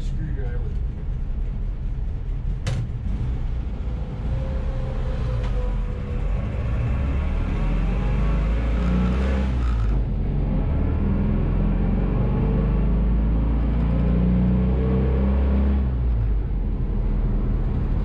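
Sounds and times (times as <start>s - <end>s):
road noise: 0.0s - 18.0s
vehicle engine drone: 0.0s - 18.0s.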